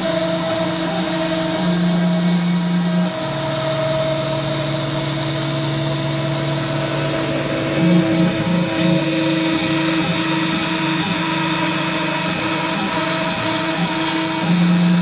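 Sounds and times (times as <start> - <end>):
rotary tool spindle motor whine: 0.0 - 15.0.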